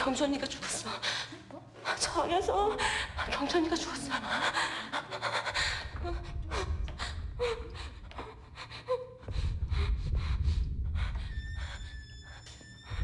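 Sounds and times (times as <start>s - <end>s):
low rumbling drone: 2.4s - 13.0s.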